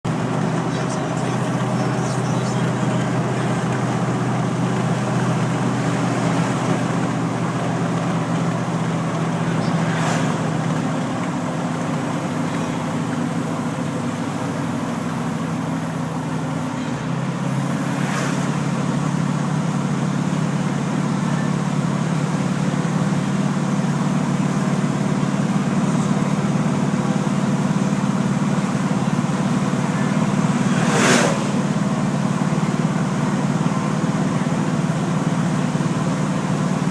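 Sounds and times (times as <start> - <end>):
diesel truck engine running: 0.0 - 36.9
turbo whine: 0.1 - 36.9.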